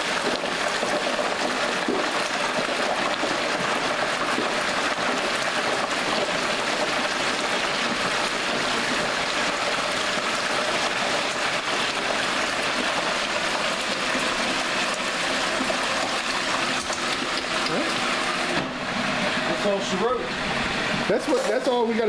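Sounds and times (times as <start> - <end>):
hot oil bubbling and sizzling: 0.0 - 22.0.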